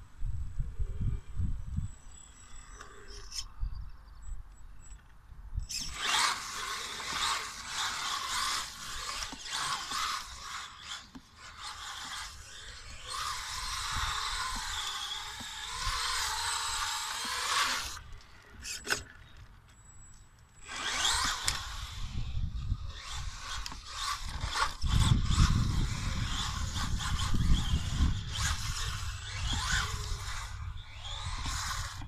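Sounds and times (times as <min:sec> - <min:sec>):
radio-controlled car motor whining: 0:00.8 - 0:03.6, 0:05.6 - 0:32.0.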